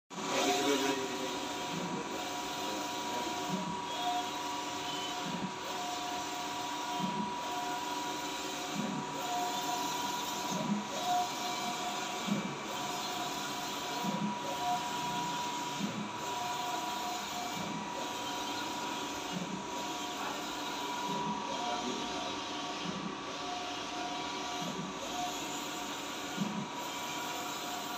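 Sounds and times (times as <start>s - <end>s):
printer motor whine: 0.2s - 27.9s.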